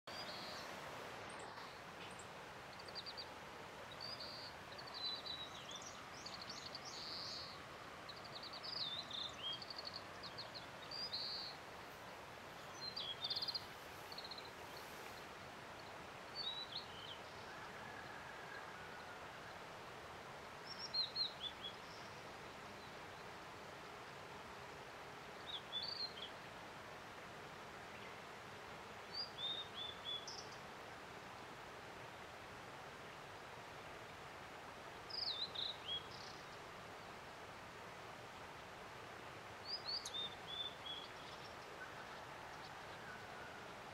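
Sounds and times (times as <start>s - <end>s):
background hiss: 0.0s - 43.9s.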